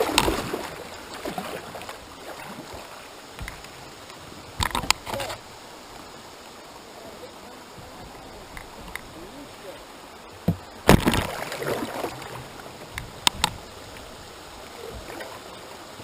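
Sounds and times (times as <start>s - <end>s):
paddle strokes in water: 0.0s - 16.0s.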